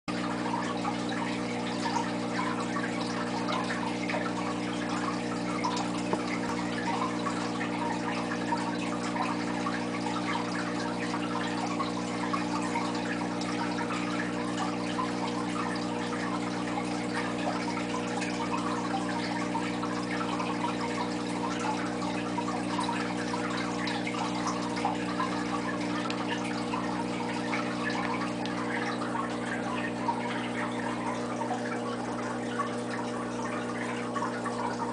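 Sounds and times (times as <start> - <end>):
aquarium water trickling and bubbling: 0.1 - 34.9.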